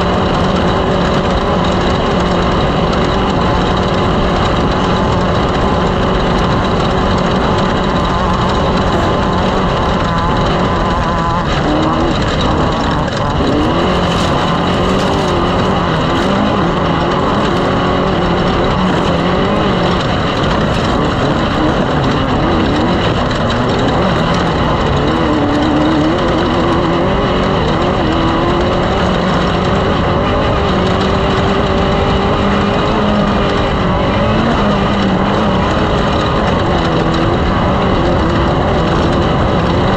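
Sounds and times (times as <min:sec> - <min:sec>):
race vehicle engines revving: 0:00.0 - 0:39.9
loud rushing noise: 0:02.8 - 0:37.1.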